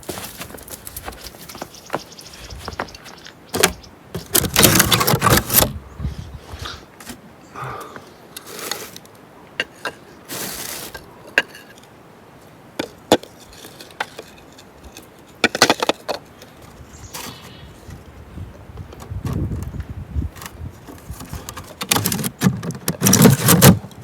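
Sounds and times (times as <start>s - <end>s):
objects being handled: 0.0s - 5.8s, 7.8s - 18.1s, 18.8s - 23.9s.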